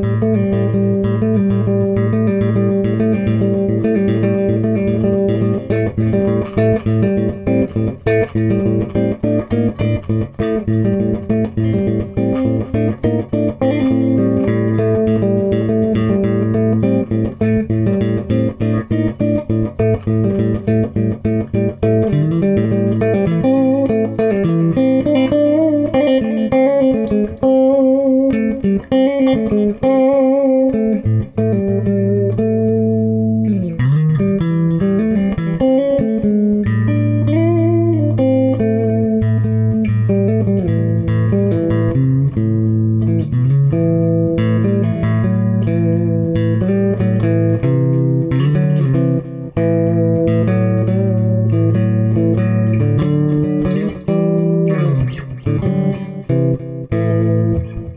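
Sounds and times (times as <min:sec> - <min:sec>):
improvised guitar melody: 0:00.0 - 0:57.9.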